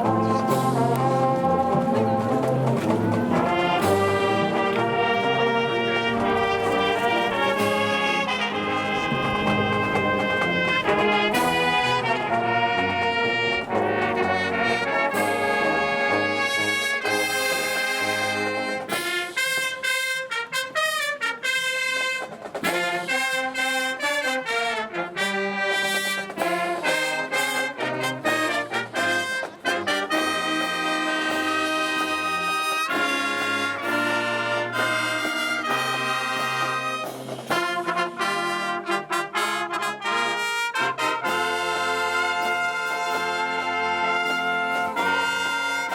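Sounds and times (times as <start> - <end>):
trumpets and trombones melody: 0.0 - 45.9.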